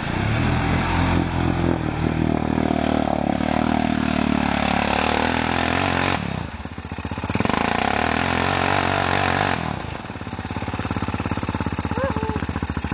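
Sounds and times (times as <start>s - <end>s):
atv engine revving: 0.0s - 12.9s.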